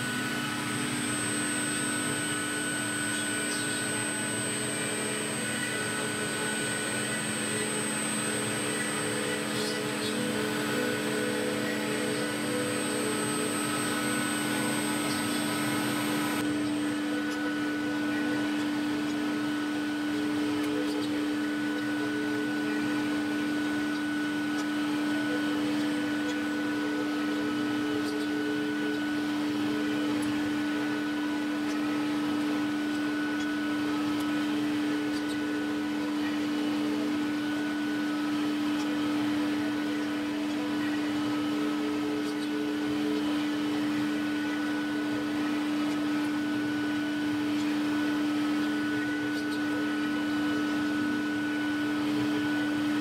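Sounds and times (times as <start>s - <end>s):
high thin whine: 0.0s - 53.0s
workshop machinery humming: 0.0s - 53.0s.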